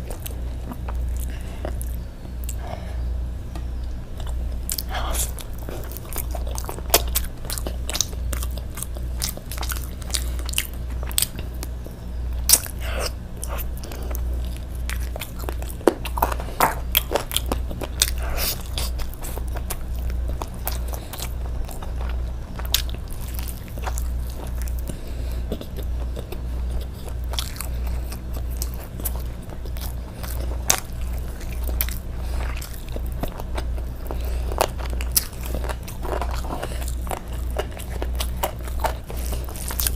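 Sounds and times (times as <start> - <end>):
low pulsing hum: 0.0 - 39.9
person chewing food: 0.0 - 39.9.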